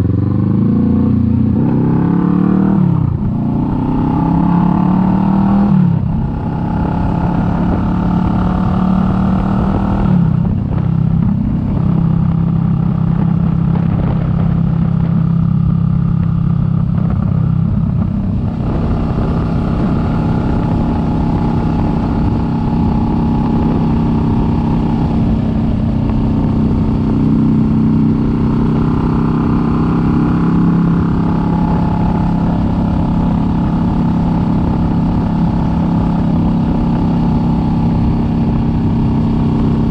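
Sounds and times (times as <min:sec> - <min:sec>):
motorcycle engine running: 0:00.0 - 0:39.9
wind rumble: 0:00.0 - 0:39.9.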